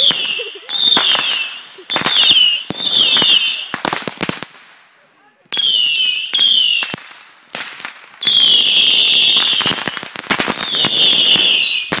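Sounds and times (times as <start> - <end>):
whistling fireworks: 0.0 - 4.7, 5.5 - 12.0
firework pops and cracks: 0.0 - 4.8, 5.5 - 12.0.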